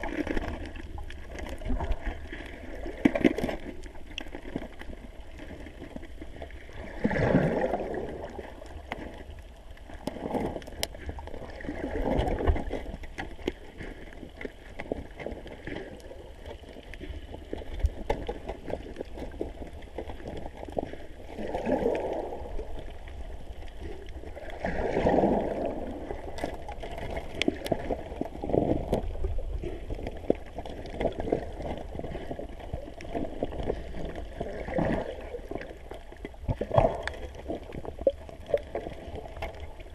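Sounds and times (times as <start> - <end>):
underwater water rushing and gurgling: 0.0 - 39.9.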